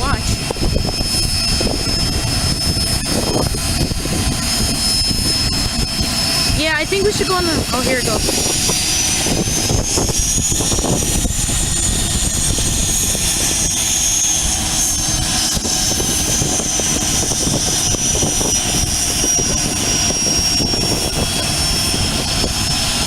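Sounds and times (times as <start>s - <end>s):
jet engine whine: 0.0s - 23.0s
low jet rumble: 0.0s - 23.0s.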